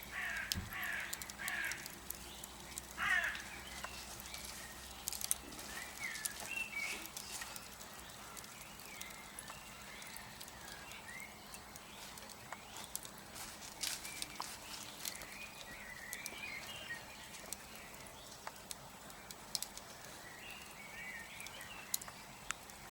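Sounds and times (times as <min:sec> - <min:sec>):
birds chirping faintly: 0:00.0 - 0:22.9
wood fire crackling and popping: 0:00.0 - 0:22.9.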